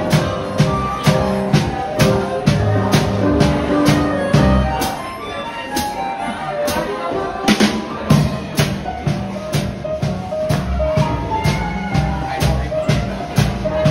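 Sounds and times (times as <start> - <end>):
drum kit: 0.0 - 13.9
held melody notes: 0.0 - 13.9
piano: 0.0 - 13.9
walking upright bass: 0.0 - 13.9.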